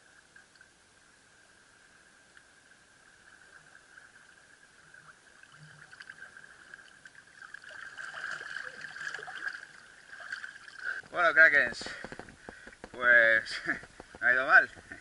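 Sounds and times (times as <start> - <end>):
water splashing and sloshing: 2.9 - 15.0.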